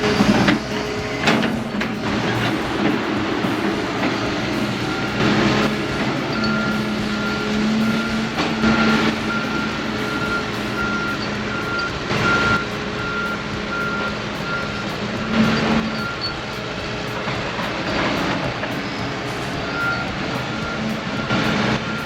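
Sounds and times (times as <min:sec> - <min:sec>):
backup alarm beeping: 0:00.0 - 0:22.0
diesel engine running: 0:00.0 - 0:22.0
machine noise surges: 0:00.0 - 0:22.0.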